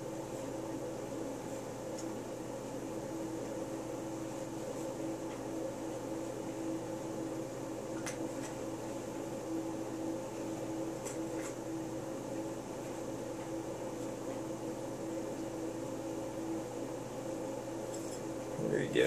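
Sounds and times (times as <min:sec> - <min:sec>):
pulsing machine hum: 0:00.0 - 0:19.0.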